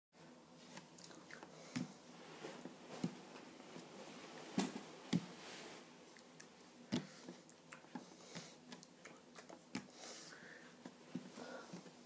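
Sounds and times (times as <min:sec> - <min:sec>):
hands and sleeves rustling: 0:00.5 - 0:12.0.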